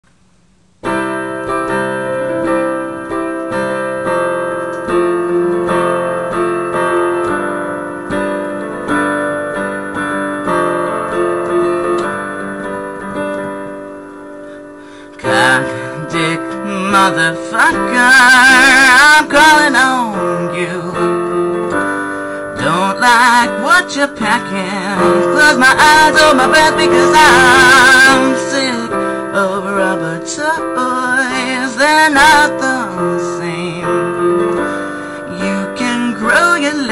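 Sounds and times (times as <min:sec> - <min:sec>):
solo piano chords: 0:00.8 - 0:36.9.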